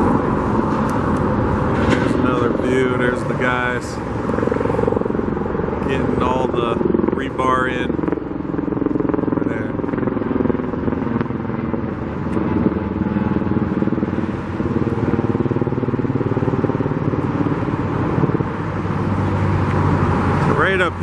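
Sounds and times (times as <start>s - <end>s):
motor vehicle engines running: 0.0s - 21.0s.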